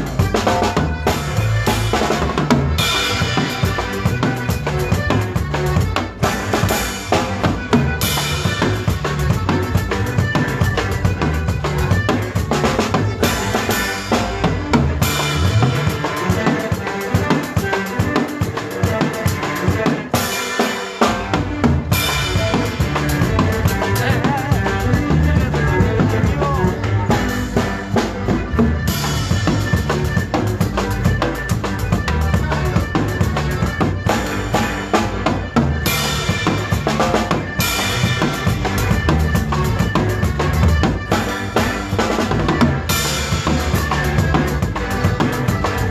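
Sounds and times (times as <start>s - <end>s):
driving drum kit beat: 0.0s - 45.9s
live band playing instrumental: 0.0s - 45.9s.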